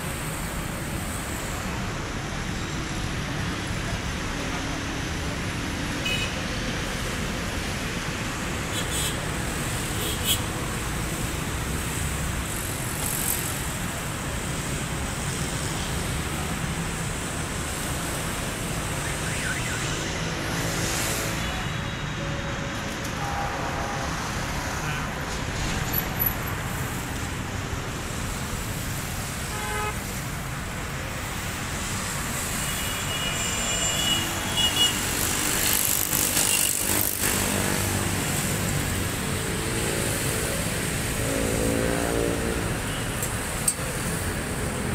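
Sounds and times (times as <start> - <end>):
road traffic noise: 0.0 - 44.9.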